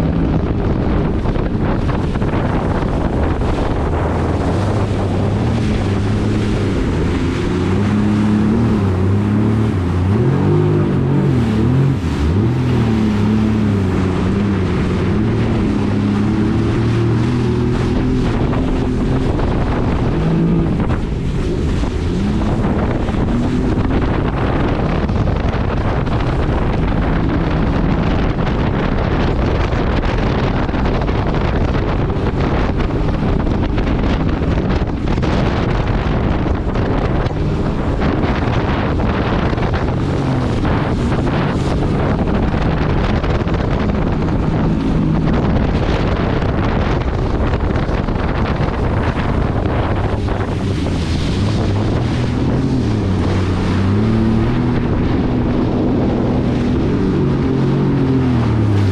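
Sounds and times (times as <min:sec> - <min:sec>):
rushing water: 0:00.0 - 0:58.9
watercraft engine running: 0:00.0 - 0:58.9
wind on microphone: 0:00.0 - 0:58.9.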